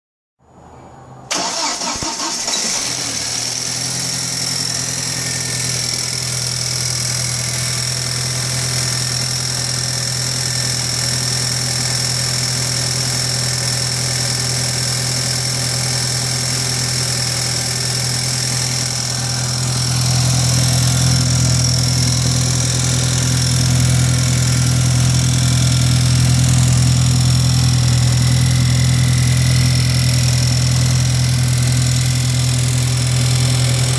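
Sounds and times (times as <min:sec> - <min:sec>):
car engine idling: 0:01.3 - 0:33.9.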